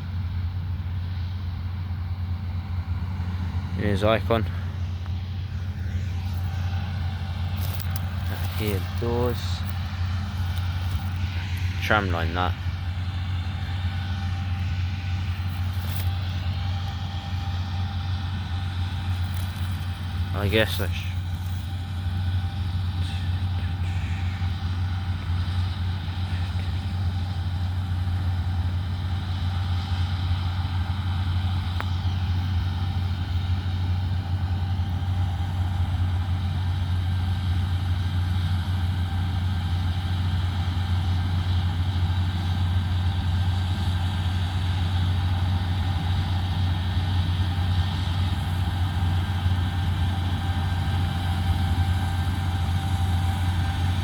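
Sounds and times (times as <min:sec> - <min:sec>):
deep engine drone: 0:00.0 - 0:54.0
faint steady whine: 0:00.0 - 0:54.0.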